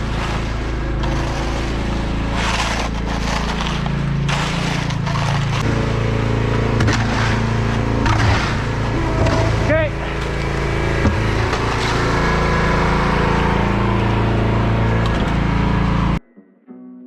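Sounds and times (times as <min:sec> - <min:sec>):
engine running: 0:00.0 - 0:16.2
rough scraping noise: 0:00.0 - 0:16.2.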